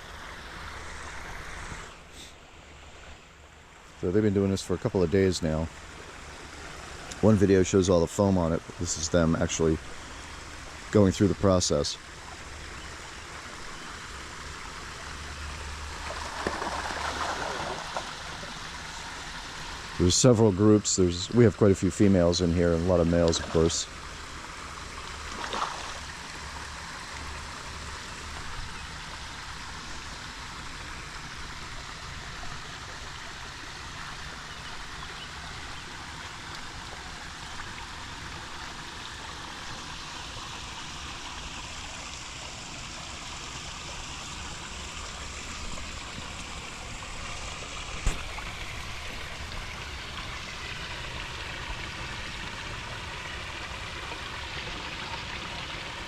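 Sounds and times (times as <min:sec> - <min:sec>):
water running into pond: 0:00.0 - 0:56.0.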